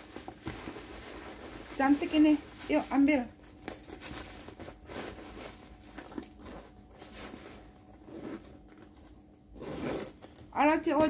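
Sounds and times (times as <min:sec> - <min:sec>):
plastic packing crinkling: 0:00.0 - 0:10.5.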